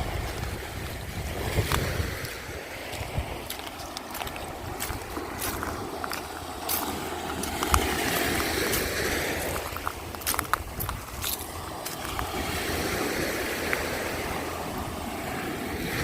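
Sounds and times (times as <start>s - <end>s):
surf washing on beach: 0.0s - 16.0s
wind on microphone: 0.0s - 16.0s.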